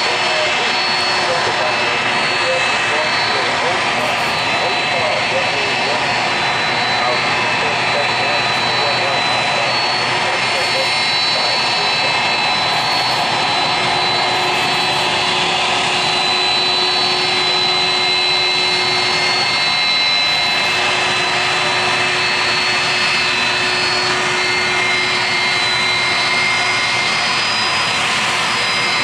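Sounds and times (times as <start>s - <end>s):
jet engines rumbling and whining: 0.0s - 29.0s.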